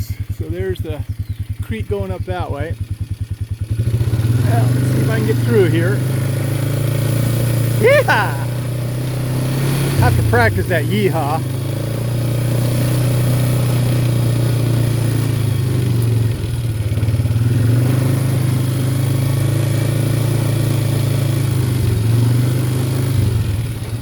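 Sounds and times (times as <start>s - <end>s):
quad bike engine running: 0.0s - 24.0s.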